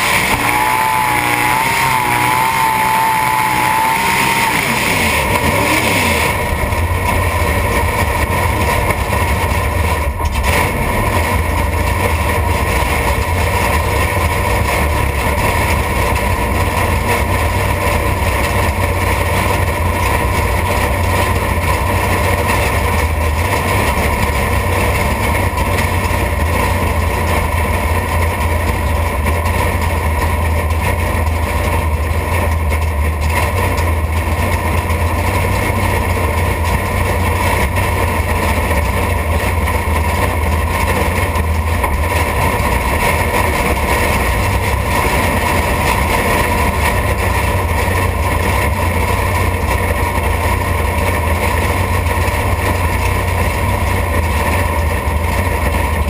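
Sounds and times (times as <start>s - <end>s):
race engine idling: 0.0s - 56.0s.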